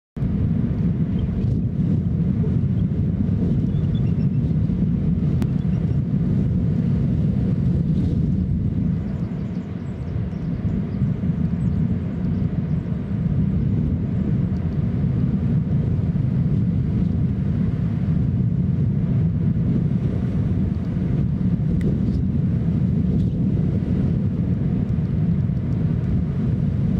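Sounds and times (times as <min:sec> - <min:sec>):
wind rumble on microphone: 0:00.2 - 0:26.9.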